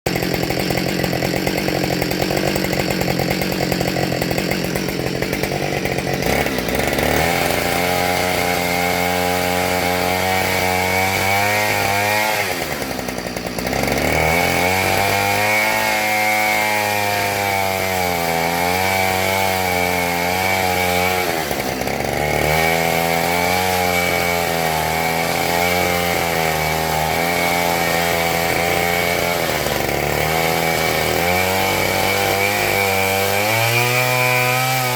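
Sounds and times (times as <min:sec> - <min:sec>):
chainsaw cutting log: 0:00.1 - 0:34.9.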